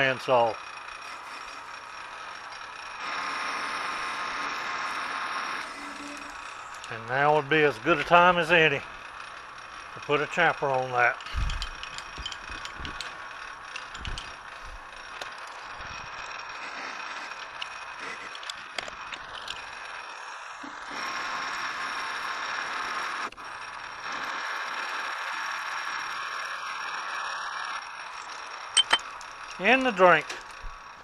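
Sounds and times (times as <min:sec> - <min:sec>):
metal lathe cutting metal: 0:00.0 - 0:31.0.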